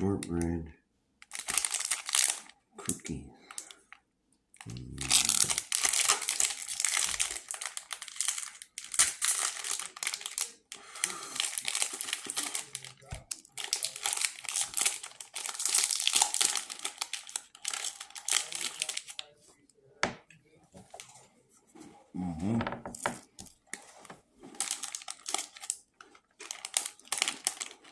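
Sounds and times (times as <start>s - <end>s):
plastic wrapper crinkling and tearing: 1.2s - 4.0s, 4.6s - 19.4s, 22.9s - 27.9s.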